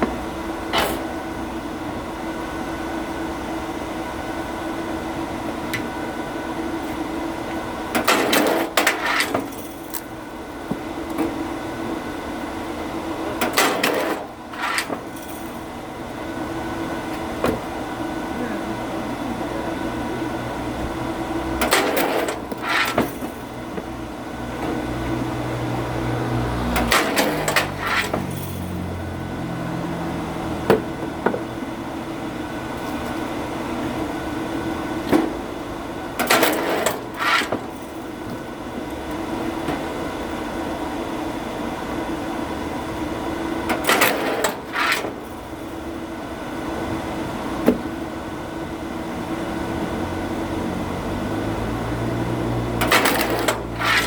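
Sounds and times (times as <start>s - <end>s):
wood-splitting machine running: 0.0s - 41.3s, 43.6s - 48.2s, 49.1s - 54.0s.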